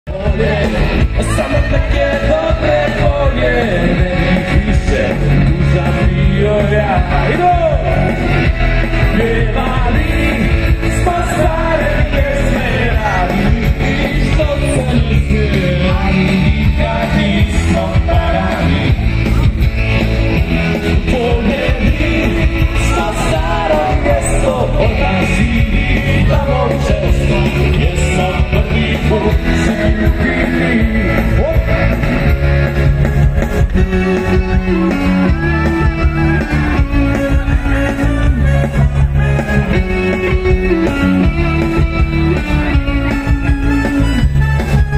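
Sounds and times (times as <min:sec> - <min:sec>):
man singing: 0:00.0 - 0:19.5, 0:20.7 - 0:32.4, 0:33.8 - 0:43.2
live pop-rock band: 0:00.1 - 0:44.9.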